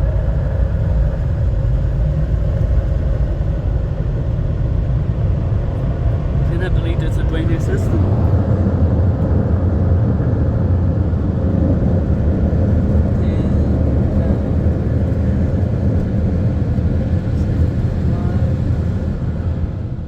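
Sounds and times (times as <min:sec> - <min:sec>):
dryer blowers rushing air: 0:00.0 - 0:20.0.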